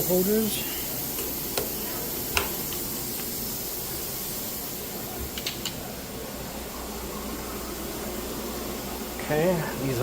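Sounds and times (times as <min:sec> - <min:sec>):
steady air hiss: 0:00.0 - 0:10.0.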